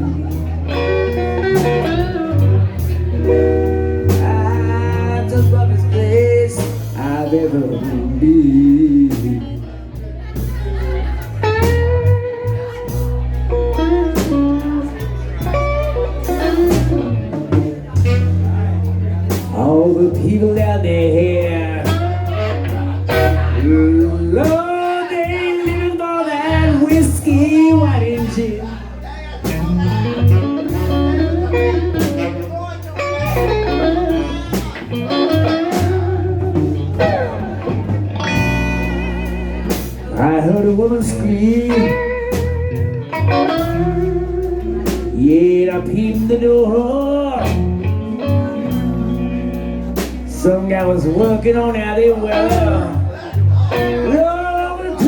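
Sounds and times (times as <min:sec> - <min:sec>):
bass: 0:00.0 - 0:55.0
blues band lead instrument: 0:00.0 - 0:55.0.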